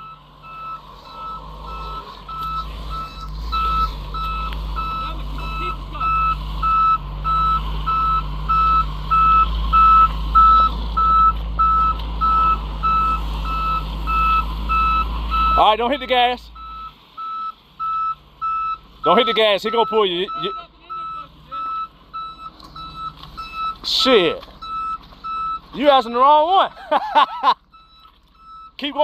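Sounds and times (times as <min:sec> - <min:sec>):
low engine rumble: 0:00.0 - 0:29.0
truck backup alarm beeping: 0:00.0 - 0:29.0.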